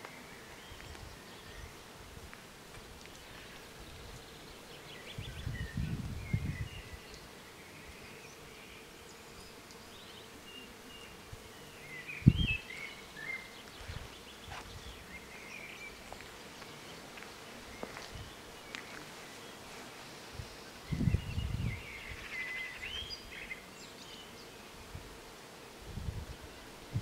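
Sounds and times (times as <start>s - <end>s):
small birds chirping: 2.8s - 25.1s.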